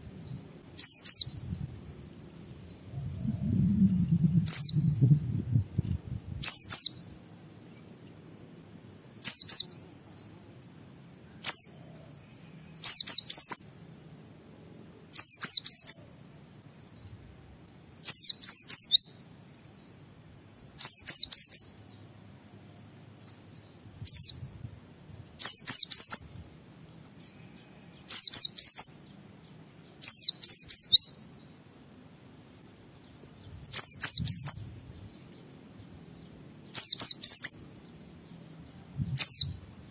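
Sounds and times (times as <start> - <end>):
bird singing high chirping phrases: 0.0 - 13.9, 14.5 - 17.2, 17.9 - 39.9.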